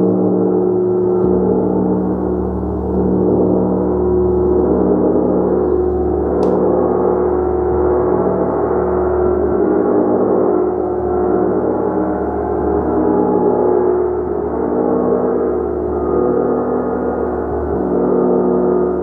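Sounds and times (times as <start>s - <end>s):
gong sustained tones: 0.0s - 19.0s.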